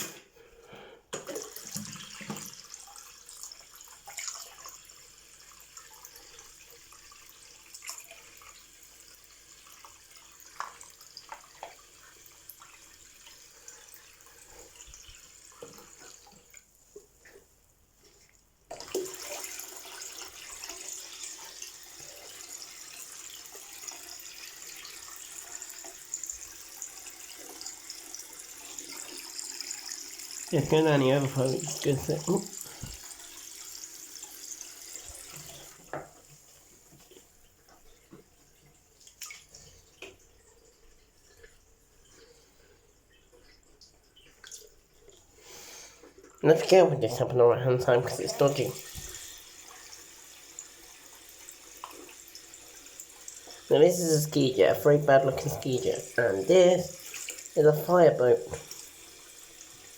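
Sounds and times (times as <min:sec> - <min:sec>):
tap water running into basin: 0:01.1 - 0:17.5, 0:18.7 - 0:59.9.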